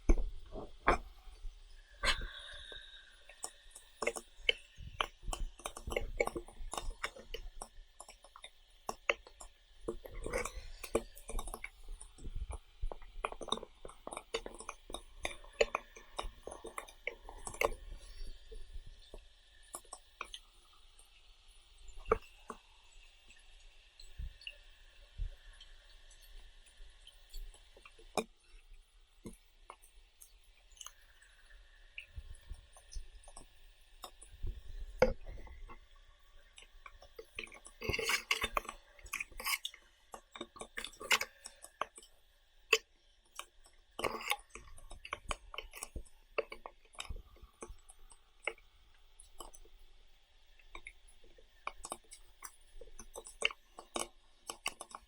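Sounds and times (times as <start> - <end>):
chewing with small clicks: 0.0 - 55.0.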